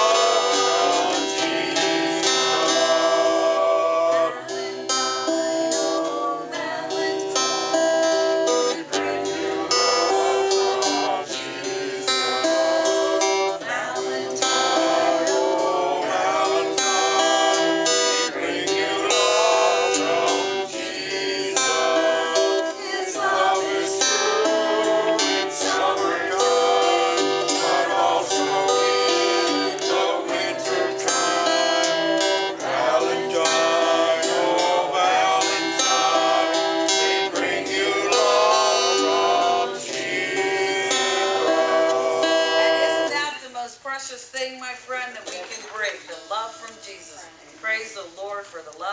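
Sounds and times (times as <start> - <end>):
woman singing: 0.0 - 37.0, 41.0 - 43.8
acoustic guitar strumming: 0.0 - 44.2, 45.2 - 47.2.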